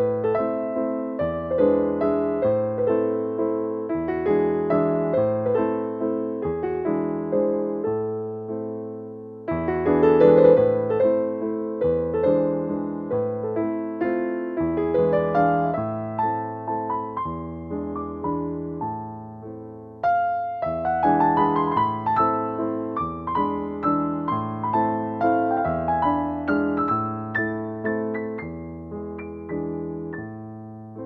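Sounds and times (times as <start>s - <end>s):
gentle piano melody: 0.0s - 31.0s.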